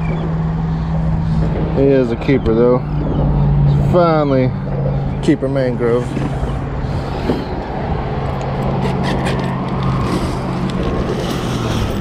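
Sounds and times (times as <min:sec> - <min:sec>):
low engine hum: 0:00.0 - 0:12.0
noisy outdoor wash: 0:00.0 - 0:12.0.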